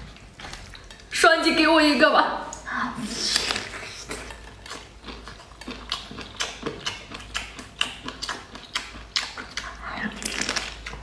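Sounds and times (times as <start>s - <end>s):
close chewing and mouth sounds: 0.0s - 1.2s, 2.5s - 11.0s.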